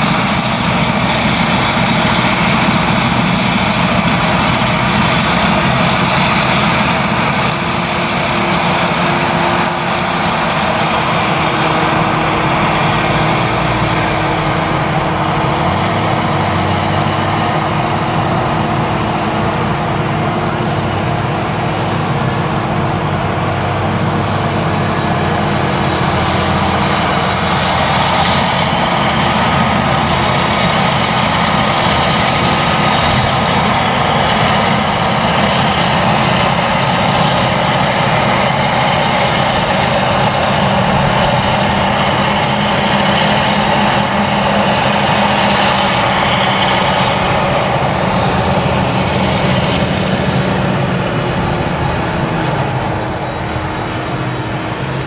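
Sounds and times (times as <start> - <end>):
harvester engine running under load: 0.0 - 55.0
tractor engines: 0.0 - 55.0.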